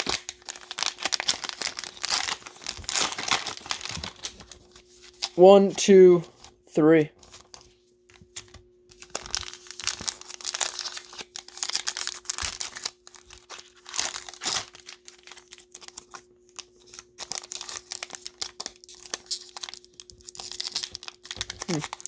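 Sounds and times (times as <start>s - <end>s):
cellophane wrapper crinkling and tearing: 0.0s - 5.4s, 8.2s - 22.0s
cards rustling: 0.0s - 22.0s.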